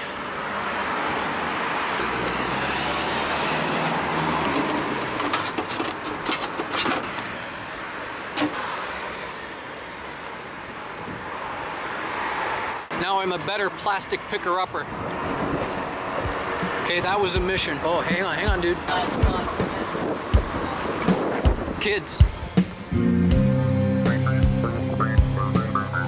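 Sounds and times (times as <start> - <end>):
vehicle passing close: 0.0 - 6.1, 6.8 - 26.0.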